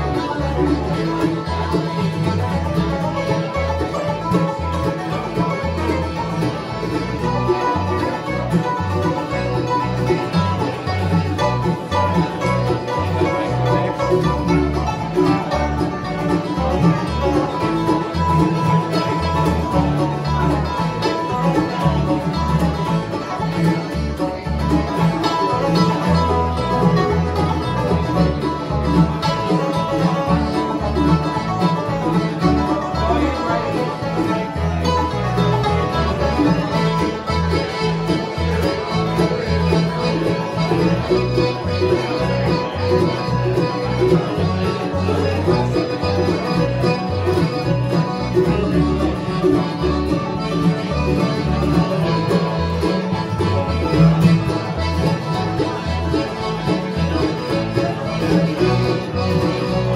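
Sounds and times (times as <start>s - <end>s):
accordion: 0.0s - 59.9s
acoustic guitar: 0.0s - 59.9s
banjo: 0.0s - 59.9s
mandolin: 0.0s - 59.9s
plucked upright bass: 0.0s - 59.9s.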